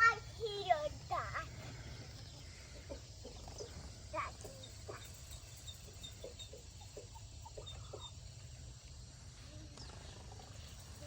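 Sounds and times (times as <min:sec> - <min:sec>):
chickens clucking: 0:00.0 - 0:09.0.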